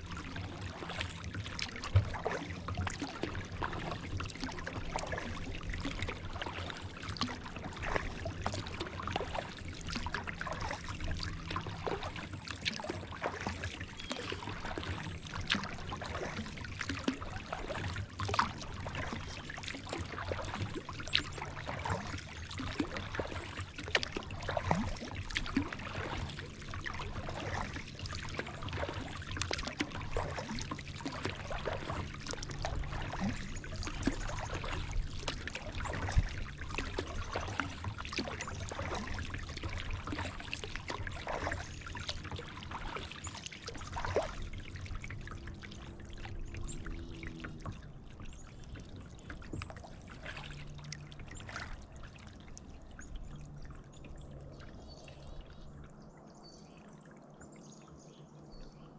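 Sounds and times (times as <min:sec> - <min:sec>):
water dripping off paddle: 0:00.0 - 0:54.4
kayak paddle splashing: 0:00.0 - 0:55.4.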